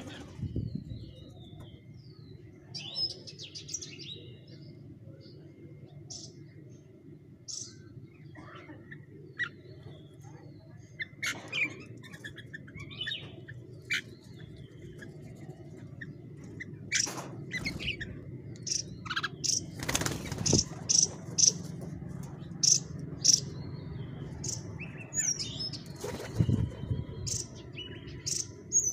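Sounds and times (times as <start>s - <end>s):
low background hum: 0.0s - 28.9s
songbirds chirping: 0.0s - 28.9s.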